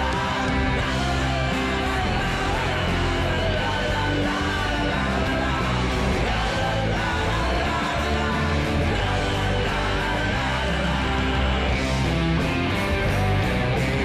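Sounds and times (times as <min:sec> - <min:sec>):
person singing: 0:00.0 - 0:12.1
live rock band playing: 0:00.0 - 0:14.0.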